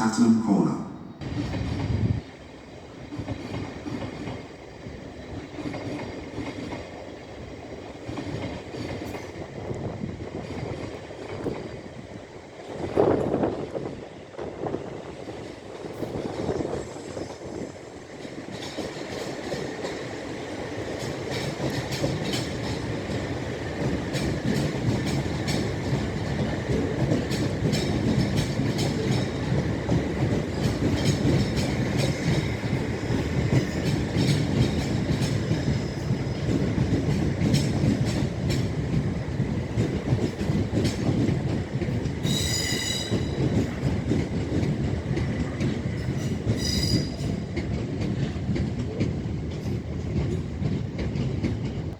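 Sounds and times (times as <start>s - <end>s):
electric train rumble: 0.0s - 51.9s.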